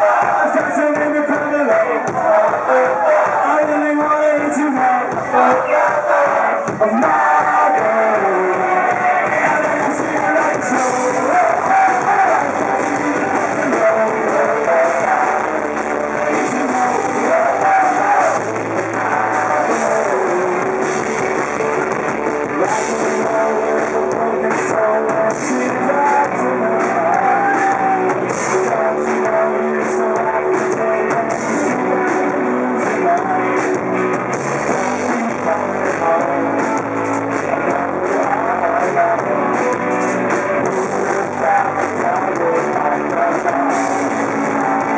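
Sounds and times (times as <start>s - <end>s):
person singing: 0.0s - 44.9s
rock band playing live: 0.0s - 44.9s.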